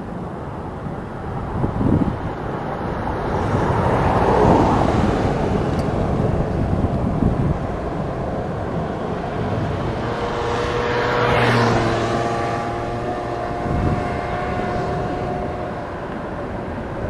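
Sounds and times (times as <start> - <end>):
jet engine whine: 0.0 - 17.0
steady rumble: 0.8 - 17.0.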